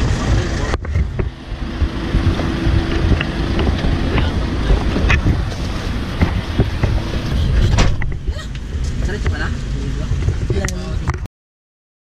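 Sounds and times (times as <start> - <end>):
wind and handling noise on microphone: 0.0 - 11.3.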